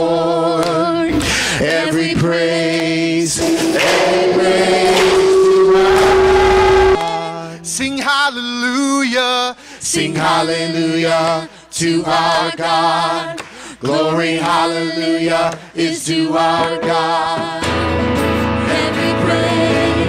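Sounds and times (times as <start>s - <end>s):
group singing unaccompanied: 0.0s - 7.5s, 9.8s - 17.9s, 18.6s - 20.0s.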